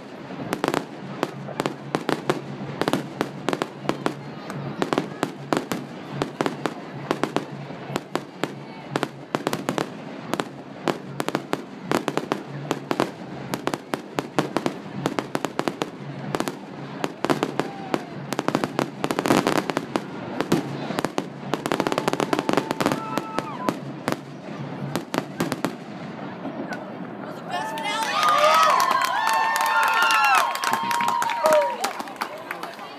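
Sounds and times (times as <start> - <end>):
fireworks bursting and crackling: 0.0 - 32.9.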